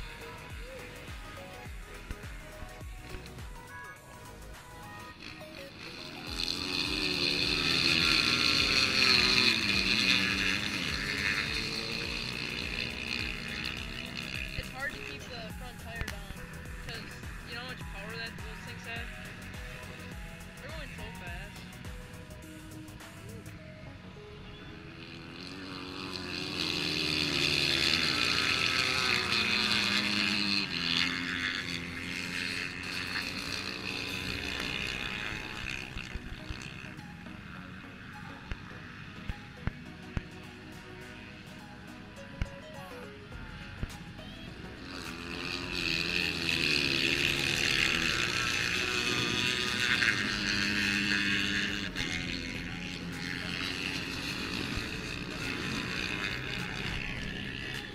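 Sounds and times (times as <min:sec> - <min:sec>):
dirt bike engines revving: 0:00.0 - 0:57.9.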